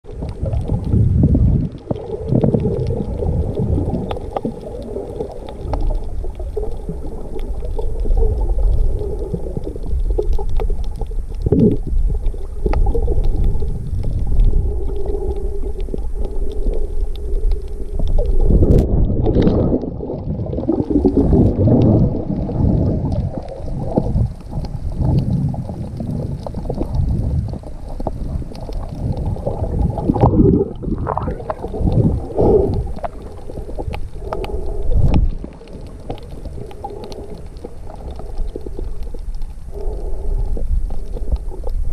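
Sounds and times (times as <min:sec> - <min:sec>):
underwater rumbling and gurgling: 0:00.0 - 0:41.9.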